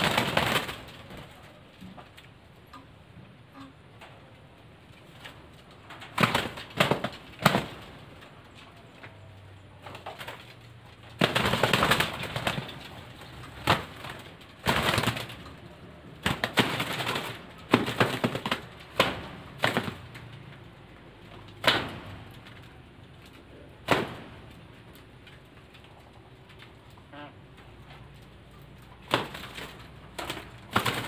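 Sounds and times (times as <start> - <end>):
doves flapping wings: 0.0 - 2.4, 5.0 - 31.0.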